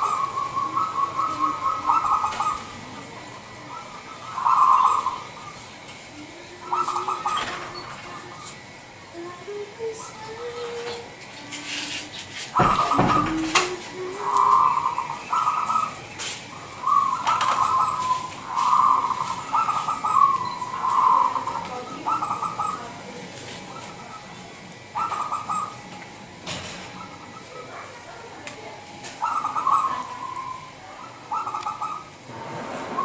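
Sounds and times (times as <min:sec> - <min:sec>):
dove cooing: 0:00.0 - 0:28.3, 0:29.0 - 0:33.0.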